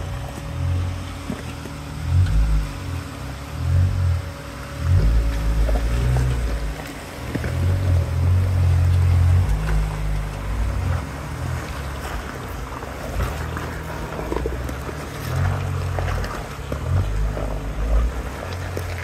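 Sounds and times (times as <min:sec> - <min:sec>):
engine low rumble: 0:00.0 - 0:19.0.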